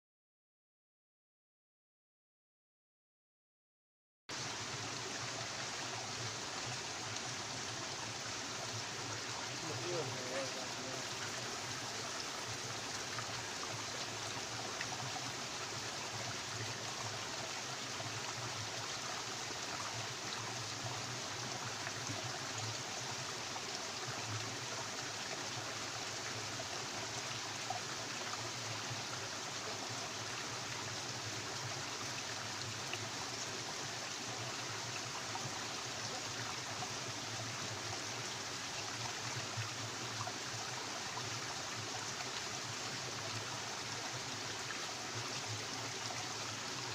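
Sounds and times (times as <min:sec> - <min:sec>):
stream water flowing: 0:04.3 - 0:46.9.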